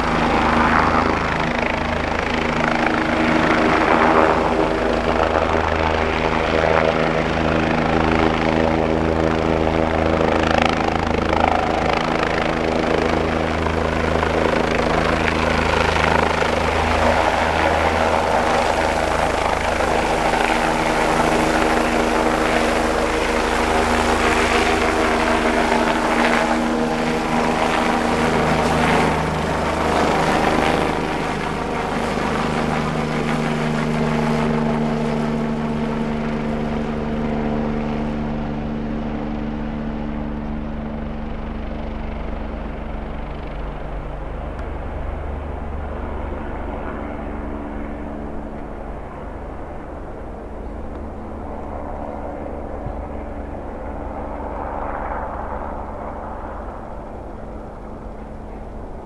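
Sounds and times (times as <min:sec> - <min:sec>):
helicopter rotor beating: 0:00.0 - 0:59.0
high turbine whine: 0:00.0 - 0:59.0.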